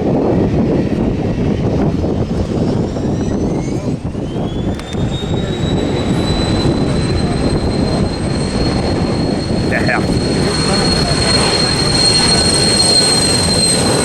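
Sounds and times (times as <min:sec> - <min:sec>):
jet engine whine spooling up: 0:00.0 - 0:14.0
heavy engine rumble: 0:00.5 - 0:14.0.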